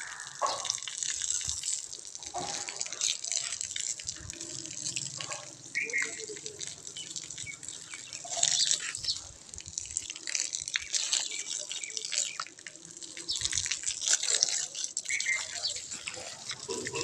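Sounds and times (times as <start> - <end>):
hose water splashing on dirt: 0.0 - 17.0
water splashing on bricks: 0.0 - 17.0.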